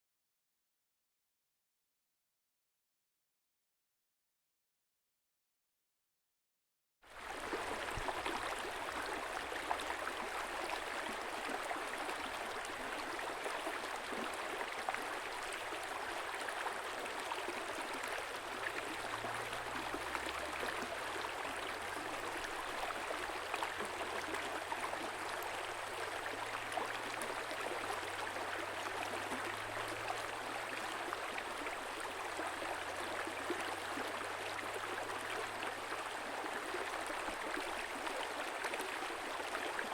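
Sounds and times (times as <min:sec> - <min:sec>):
stream water gurgling: 0:07.1 - 0:39.9.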